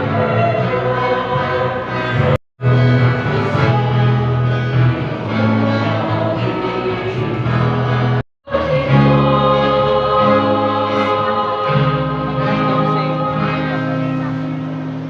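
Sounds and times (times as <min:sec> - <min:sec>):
church choir singing: 0:00.0 - 0:15.0.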